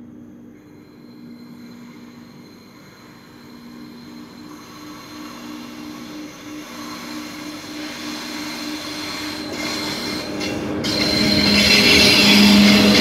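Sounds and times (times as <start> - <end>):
train passing with low drone: 0.0 - 13.0.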